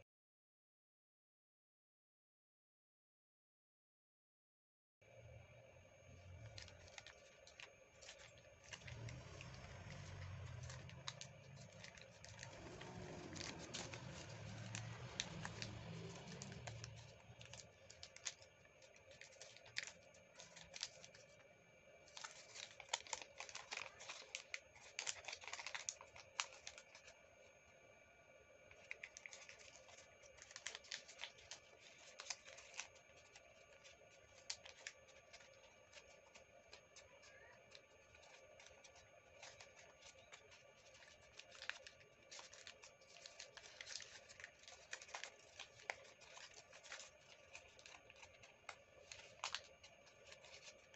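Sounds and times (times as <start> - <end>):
paper crinkling while folded: 6.1 - 27.3, 28.7 - 50.9.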